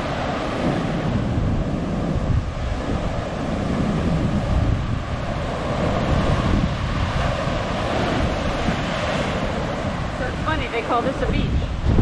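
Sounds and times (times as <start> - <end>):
surf breaking on rocks: 0.0 - 12.0
wind on microphone: 0.0 - 12.0.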